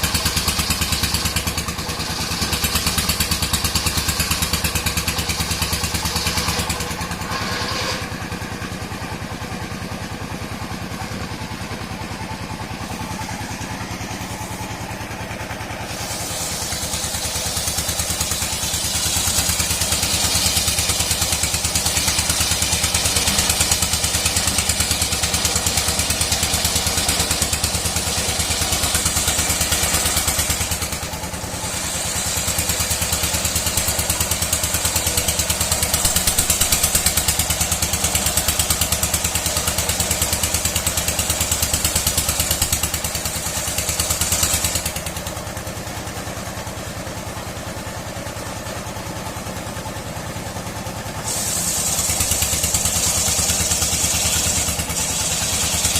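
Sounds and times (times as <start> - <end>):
saw blade hissing through wood: 0.0 - 47.0, 50.8 - 55.9
sawmill machine engine: 0.0 - 55.9.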